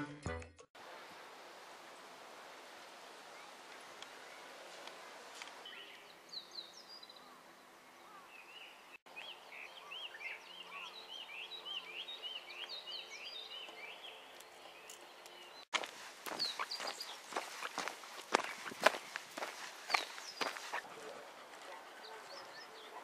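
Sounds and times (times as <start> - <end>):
small birds chirping: 3.3 - 23.0.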